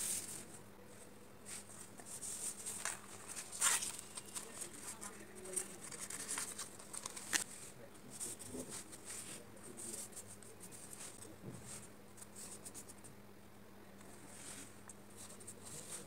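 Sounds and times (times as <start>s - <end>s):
paper rustling and scratching: 1.5s - 13.0s, 14.2s - 16.0s.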